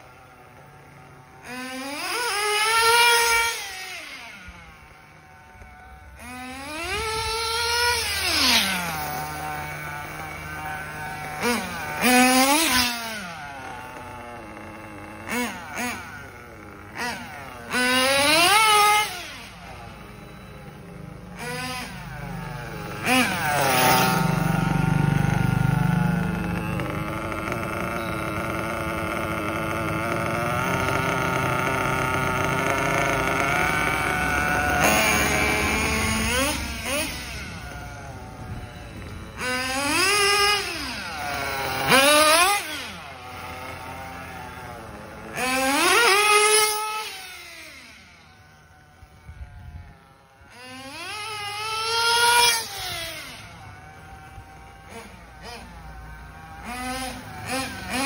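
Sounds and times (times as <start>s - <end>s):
model car engine revving: 0.0s - 58.0s.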